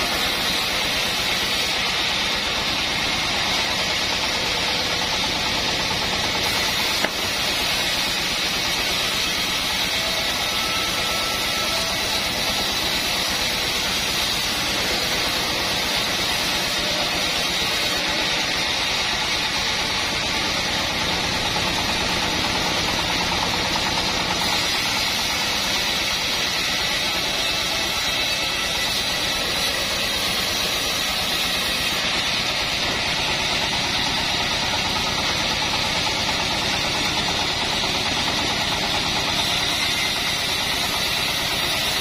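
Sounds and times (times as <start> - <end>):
band saw cutting log: 0.0 - 42.0.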